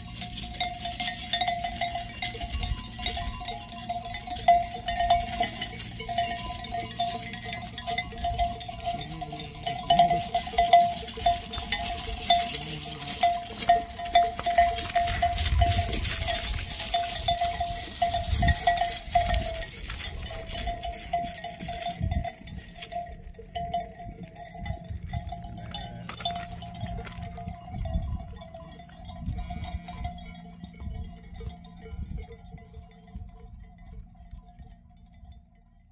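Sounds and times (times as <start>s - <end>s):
sheep bell clanking: 0.0s - 35.9s.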